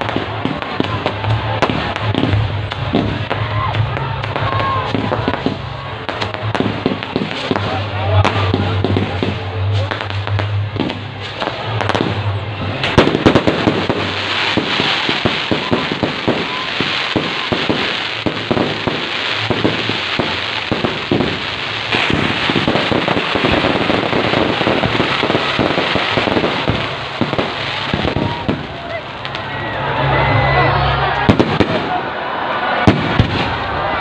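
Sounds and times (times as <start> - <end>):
fireworks crackling and banging: 0.0 - 34.0.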